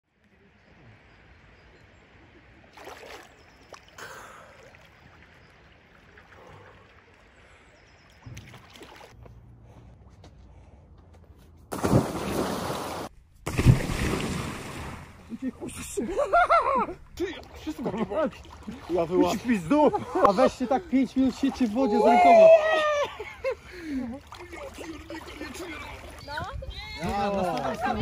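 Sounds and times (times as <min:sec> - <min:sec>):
river water lapping and gurgling: 0:00.1 - 0:09.6, 0:11.7 - 0:28.0.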